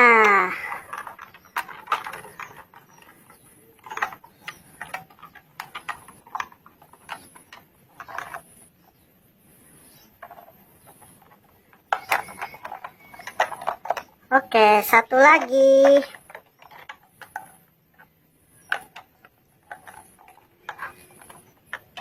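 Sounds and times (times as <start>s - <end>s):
small plastic clicks and knocks: 0.0s - 8.8s, 9.6s - 22.0s.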